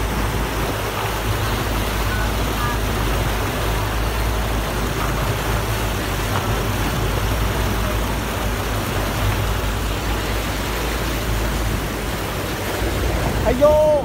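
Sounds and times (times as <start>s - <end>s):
motorboat engine rumble: 0.0s - 14.0s
water churning in wake: 0.0s - 14.0s.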